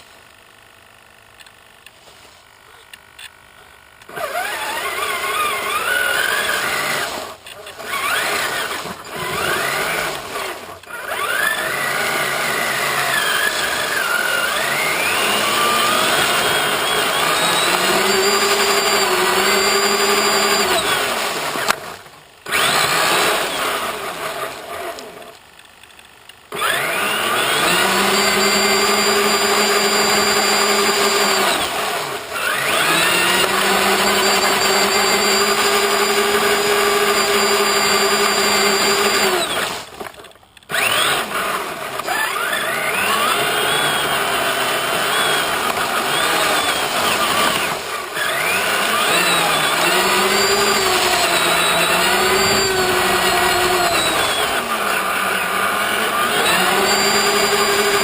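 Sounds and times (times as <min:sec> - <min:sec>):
rc truck motor whining: 0:00.0 - 0:58.0.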